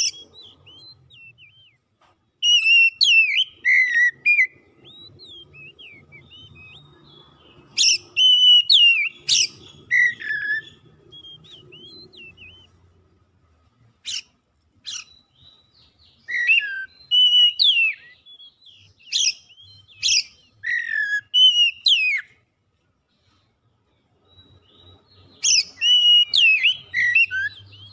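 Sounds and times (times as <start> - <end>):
bird singing whistled phrases: 0.0 - 1.8, 2.4 - 12.8, 14.0 - 22.4, 24.3 - 27.9
bird chirps: 0.0 - 22.5, 23.1 - 27.9.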